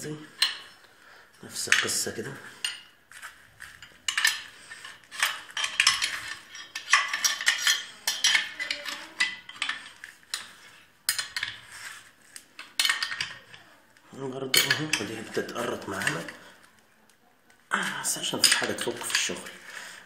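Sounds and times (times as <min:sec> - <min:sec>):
metal tools clinking and scraping: 0:00.0 - 0:16.6, 0:17.8 - 0:20.0.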